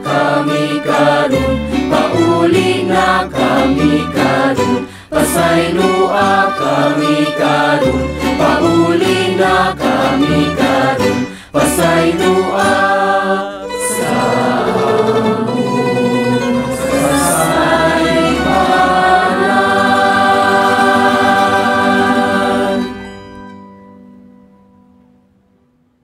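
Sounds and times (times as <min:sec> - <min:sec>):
group of people singing: 0:00.0 - 0:23.1.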